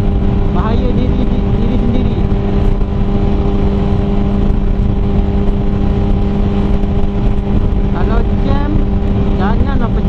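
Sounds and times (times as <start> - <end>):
motorcycle engine cruising: 0.0 - 10.0
wind rushing on microphone: 0.0 - 10.0.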